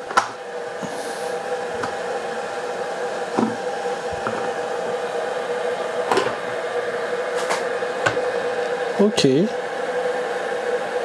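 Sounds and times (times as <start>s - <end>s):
kitchen robot electric hum: 0.0s - 11.0s.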